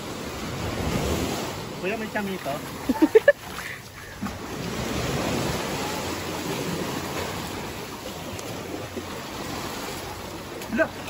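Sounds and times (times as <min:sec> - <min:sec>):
ocean waves washing onto beach: 0:00.0 - 0:11.0.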